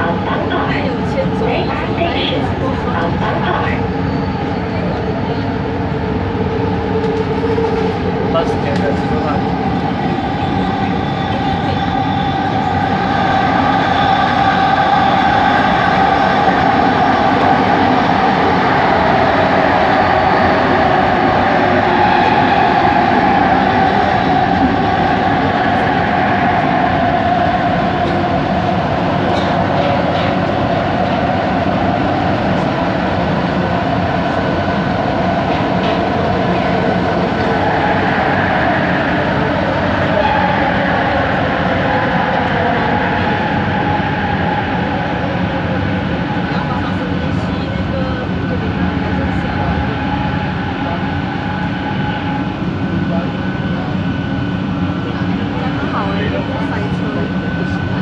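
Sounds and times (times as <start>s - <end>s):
rumbling train wheels: 0.0s - 58.0s
train motor whine: 0.0s - 58.0s.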